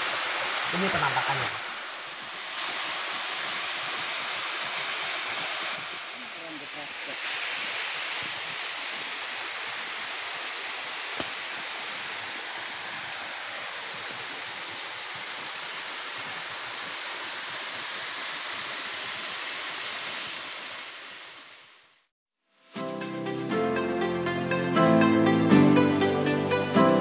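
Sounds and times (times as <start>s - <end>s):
waterfall rushing into pool: 0.0s - 22.1s.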